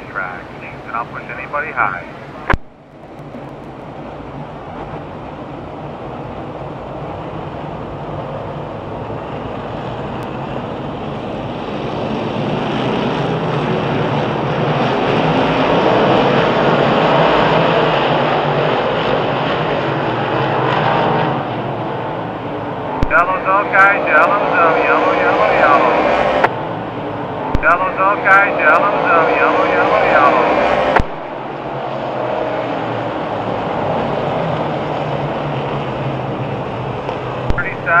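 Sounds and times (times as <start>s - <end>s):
race car engines droning: 0.0s - 38.0s.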